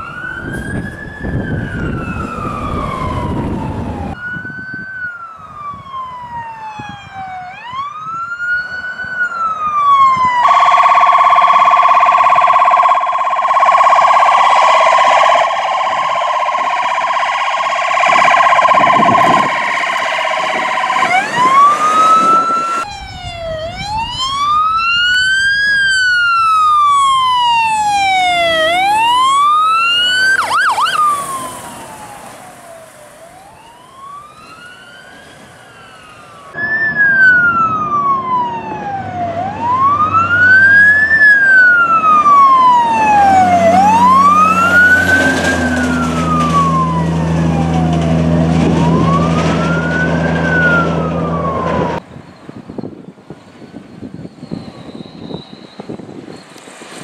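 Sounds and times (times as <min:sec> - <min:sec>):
fire truck siren wailing: 0:00.0 - 0:57.0
truck engine drone: 0:08.5 - 0:57.0.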